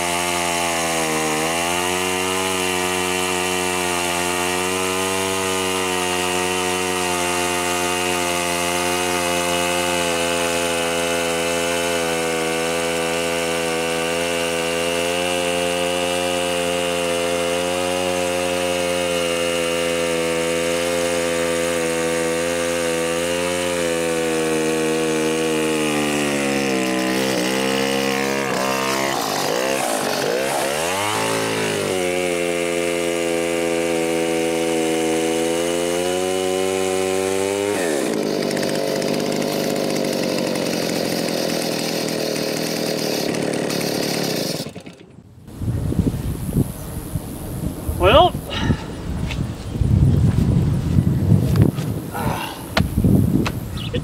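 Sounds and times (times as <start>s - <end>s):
chainsaw cutting log: 0.0s - 45.6s, 48.0s - 48.9s, 51.3s - 54.0s.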